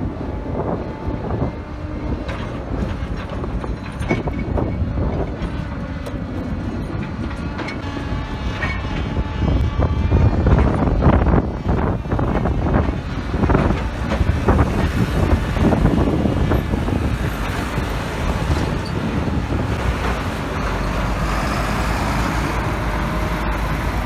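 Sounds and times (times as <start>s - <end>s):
excavator engine rumble: 0.0s - 24.0s.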